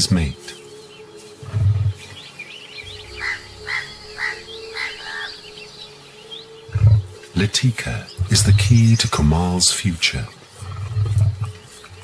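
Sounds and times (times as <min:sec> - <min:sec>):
faint low drone: 0:00.0 - 0:12.0
higher bird chirps: 0:00.0 - 0:12.0.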